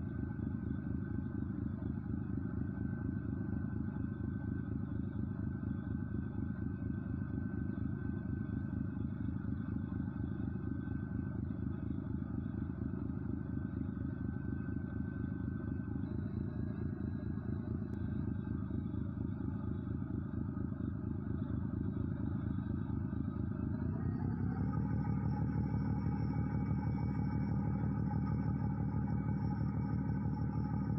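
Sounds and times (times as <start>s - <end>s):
engine pulsing drone: 0.0s - 30.9s.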